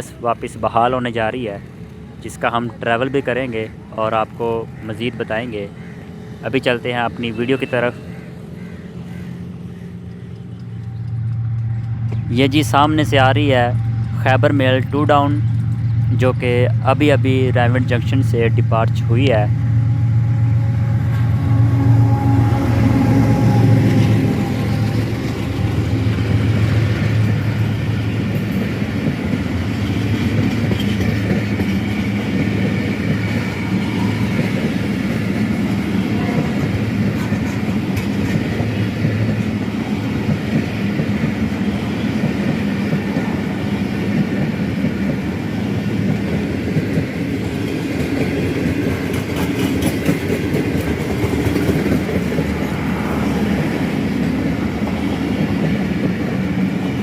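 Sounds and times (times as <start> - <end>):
locomotive humming: 0.0 - 57.0
wheels clicking over rail joints: 8.2 - 19.8, 22.9 - 57.0.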